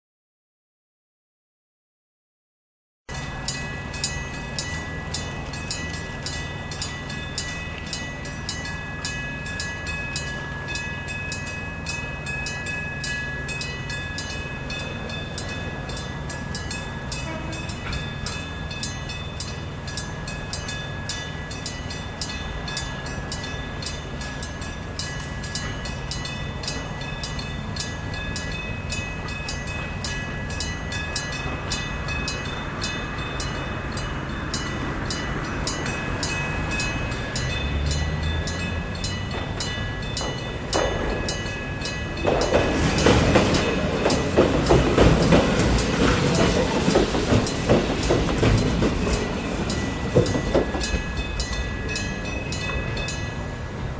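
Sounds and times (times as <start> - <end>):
level crossing warning bell ringing: 3.1 - 53.9
low train rumble: 3.1 - 53.9.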